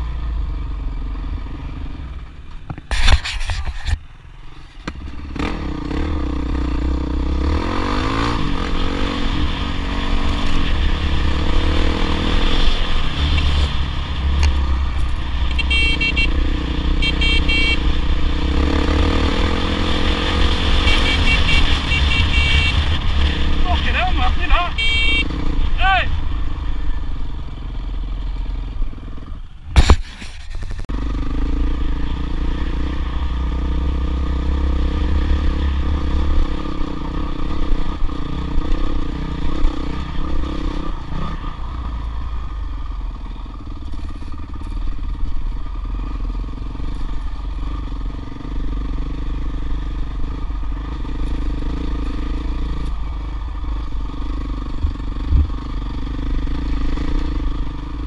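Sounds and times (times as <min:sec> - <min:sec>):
off-road motorcycle engine running: 0:00.0 - 0:58.0.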